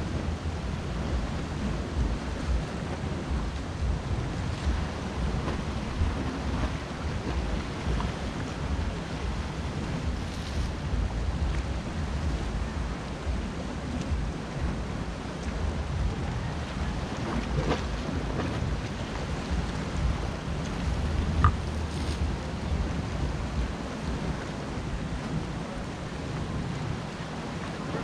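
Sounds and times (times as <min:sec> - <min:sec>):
waves on rocky shore: 0:00.0 - 0:28.0
wind on microphone: 0:00.0 - 0:28.0.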